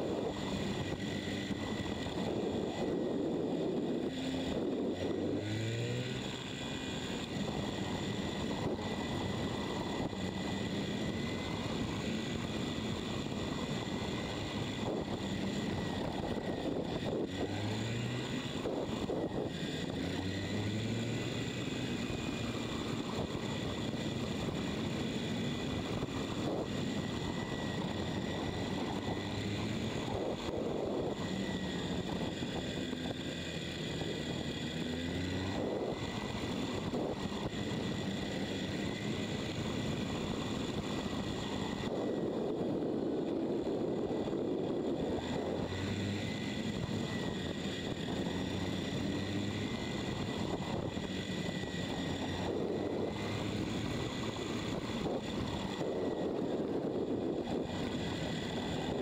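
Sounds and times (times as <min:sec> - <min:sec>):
motorcycle engine revving: 0:00.0 - 0:59.0
riding wind rush: 0:00.0 - 0:59.0.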